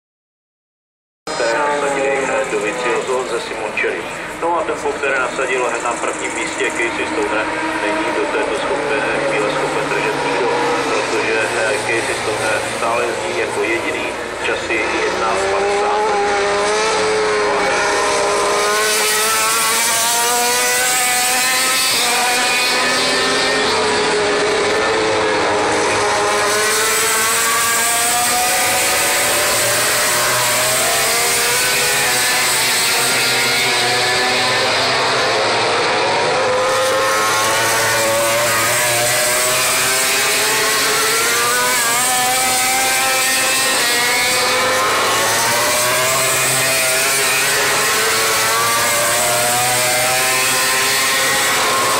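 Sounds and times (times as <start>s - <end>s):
race motorcycles at full throttle: 1.3s - 51.9s.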